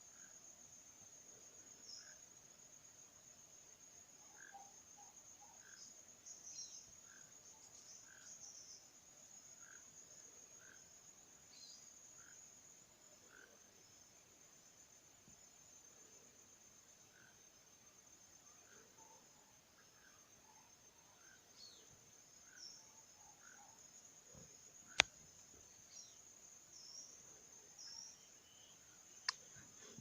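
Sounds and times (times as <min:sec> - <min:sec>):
high-pitched insect trill: 0:00.0 - 0:30.0.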